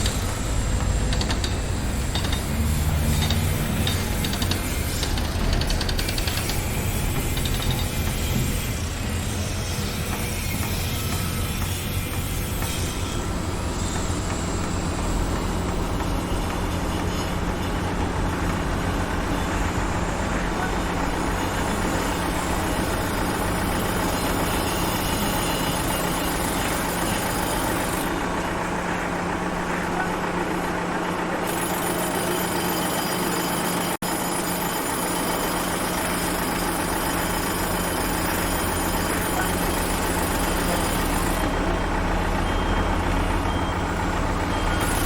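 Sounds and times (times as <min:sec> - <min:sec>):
heavy vehicle engine rumbling: 0:00.0 - 0:31.6, 0:36.8 - 0:45.0
machinery noise: 0:00.0 - 0:45.0.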